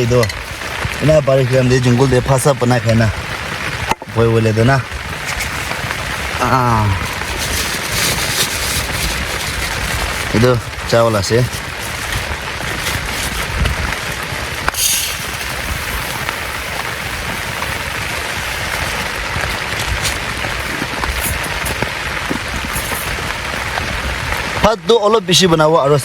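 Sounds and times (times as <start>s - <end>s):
sharp raindrop taps: 0.0s - 25.2s
heavy rain falling: 0.0s - 26.0s.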